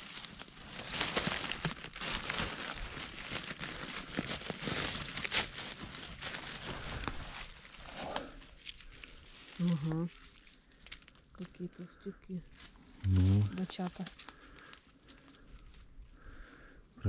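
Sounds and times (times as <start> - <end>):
dry leaves rustling and crackling: 0.0 - 11.8, 12.4 - 16.5.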